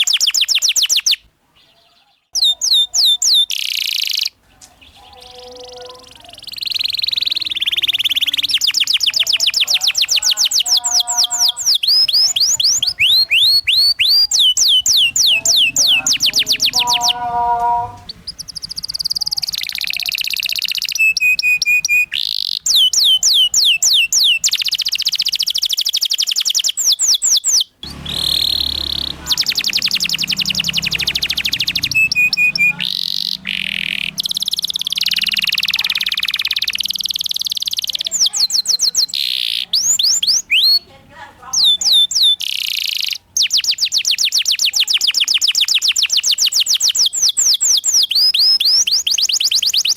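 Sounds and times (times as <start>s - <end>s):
canary singing: 0.0s - 49.9s.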